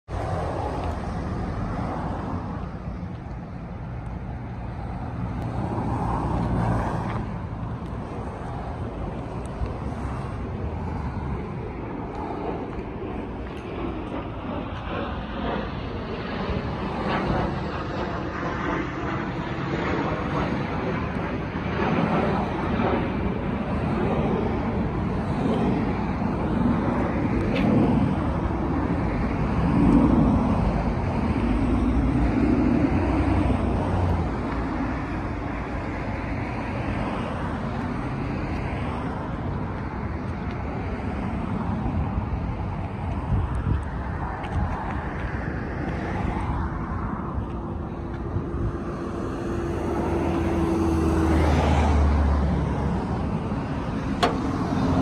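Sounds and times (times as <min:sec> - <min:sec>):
motor vehicle rumble: 0:00.0 - 0:55.0.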